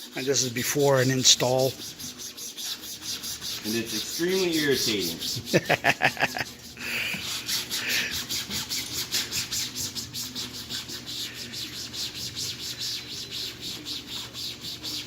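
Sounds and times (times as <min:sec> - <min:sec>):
scrub brush scrubbing tire: 0:00.0 - 0:15.0.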